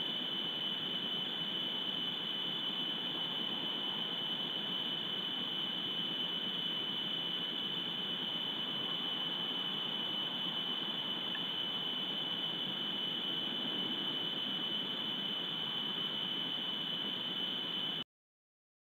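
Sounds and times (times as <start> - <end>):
electronic hiss: 0.0 - 18.0
high-pitched electronic whine: 0.0 - 18.0.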